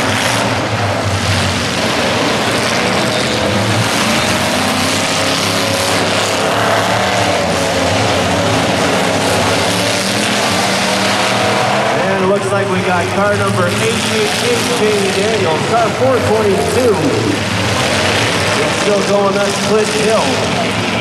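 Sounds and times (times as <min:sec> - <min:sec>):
car engines revving: 0:00.0 - 0:21.0
noisy din: 0:00.0 - 0:21.0.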